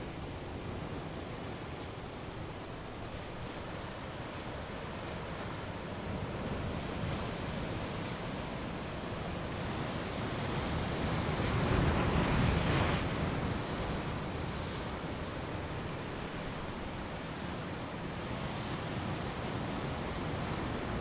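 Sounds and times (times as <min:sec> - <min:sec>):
waves breaking on rocky shore: 0:00.2 - 0:21.0.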